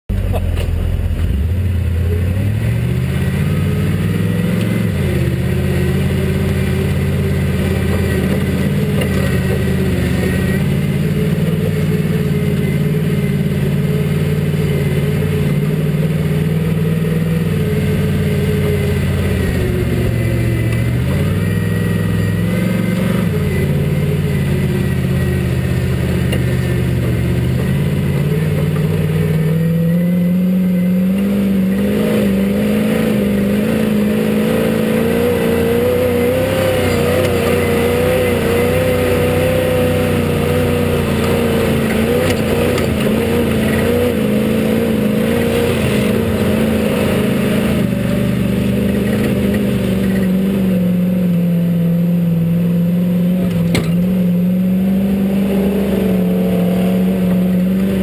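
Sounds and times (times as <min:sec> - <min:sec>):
buggy engine revving: 0:00.0 - 0:58.0.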